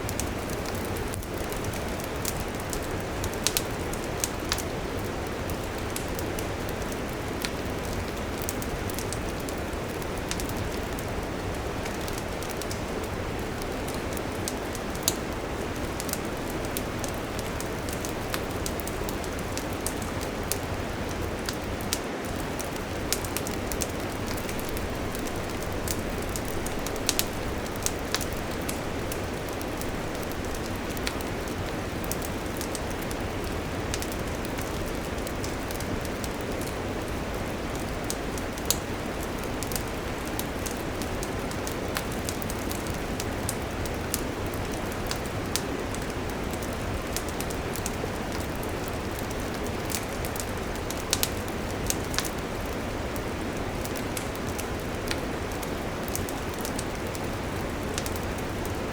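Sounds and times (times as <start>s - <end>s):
fire crackles and pops: 0.0s - 58.9s.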